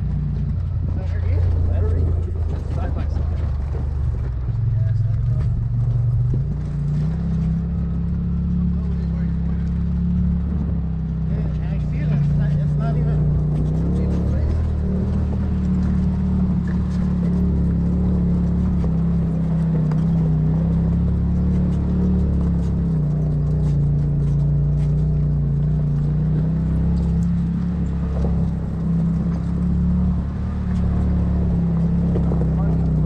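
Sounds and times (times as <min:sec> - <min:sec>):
off-road vehicle engine running: 0:00.0 - 0:33.0.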